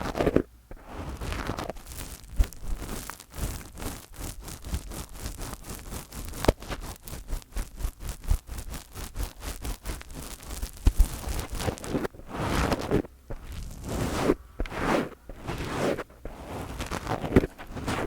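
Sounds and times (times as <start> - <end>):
fingers rubbing on microphone: 0.0 - 18.0.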